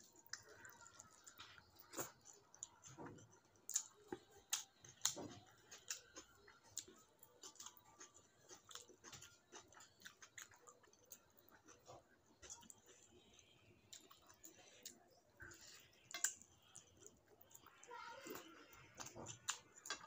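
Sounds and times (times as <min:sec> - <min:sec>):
person chewing: 0:00.0 - 0:20.0
fingers mixing rice on a plate: 0:00.2 - 0:20.0.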